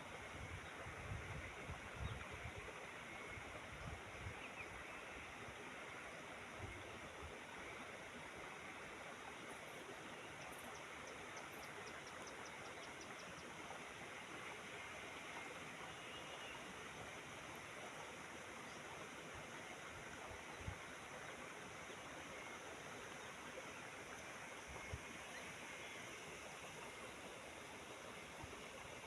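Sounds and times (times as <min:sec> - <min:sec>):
flowing water rushing: 0:00.0 - 0:29.0.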